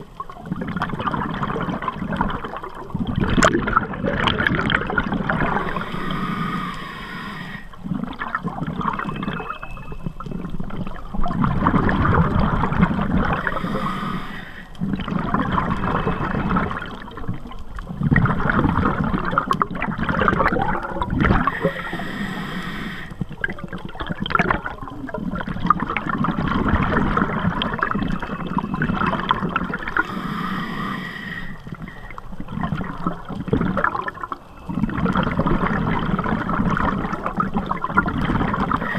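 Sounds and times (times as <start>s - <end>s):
exhaled bubbles rushing underwater: 0.0s - 38.9s
gurgling water: 0.0s - 38.9s.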